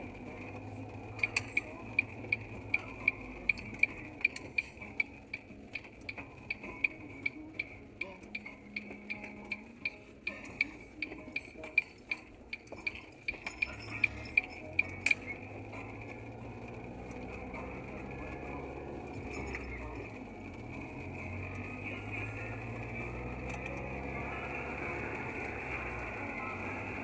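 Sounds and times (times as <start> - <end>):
car low rumble: 0.0 - 27.0
car turn signal ticking: 0.0 - 27.0.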